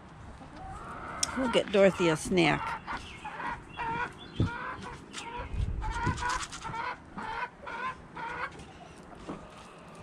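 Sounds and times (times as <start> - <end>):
hens clucking: 0.3 - 10.0.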